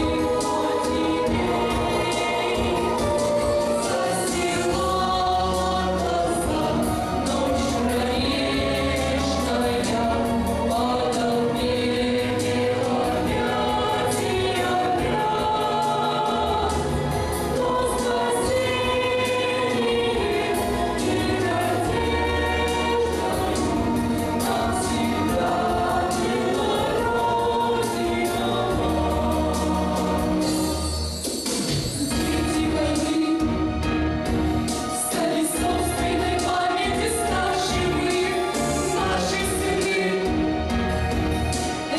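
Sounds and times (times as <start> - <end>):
choir singing slow song: 0.0 - 41.9
instrumental accompaniment with bass: 0.0 - 41.9.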